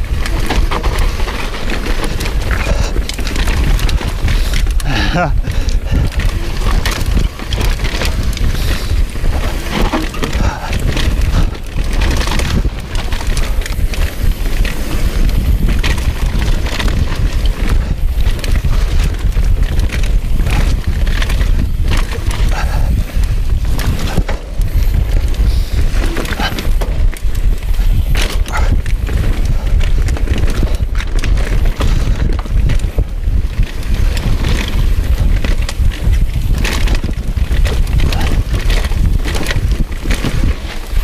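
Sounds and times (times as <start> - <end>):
bike clattering over bumps: 0.0 - 41.0
tyres crunching over dirt: 0.0 - 41.0
wind buffeting microphone: 0.0 - 41.0.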